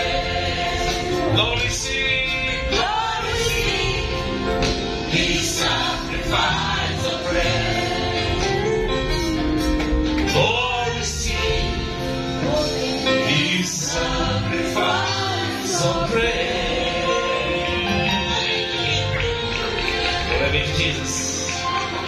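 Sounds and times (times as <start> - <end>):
congregation singing a praise song: 0.0 - 9.5, 10.1 - 22.0
accompanying music: 0.0 - 22.0.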